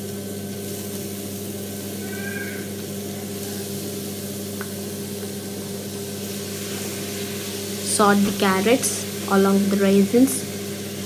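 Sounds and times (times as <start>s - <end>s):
faint frying sizzle: 0.0s - 11.0s.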